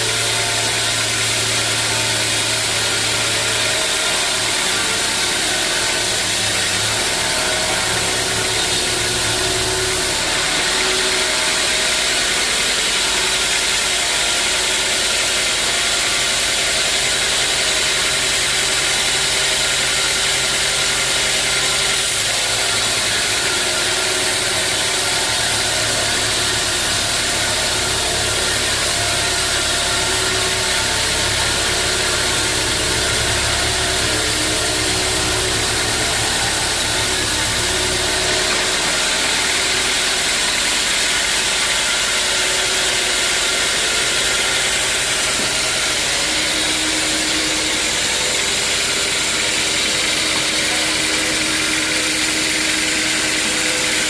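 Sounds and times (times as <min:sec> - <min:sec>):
sawmill machinery sawing logs: 0:00.0 - 0:54.0.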